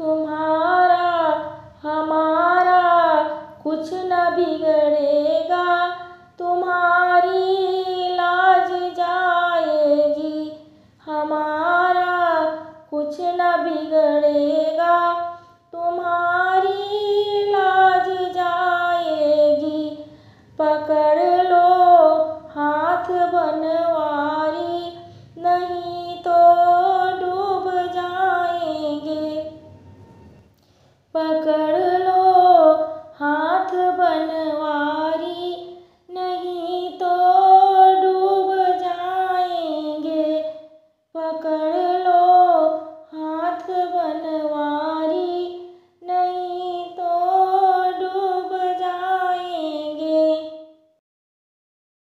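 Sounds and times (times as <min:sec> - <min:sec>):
woman singing devotional song: 0:00.0 - 0:29.8, 0:30.6 - 0:51.0.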